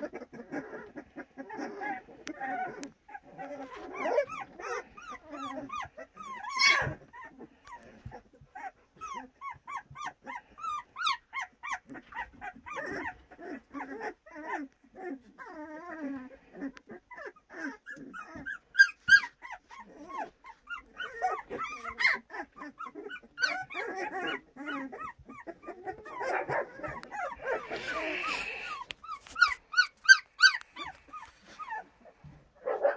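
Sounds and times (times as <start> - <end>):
puppies growling: 0.0 - 32.9
puppies yipping and whimpering: 0.0 - 32.9.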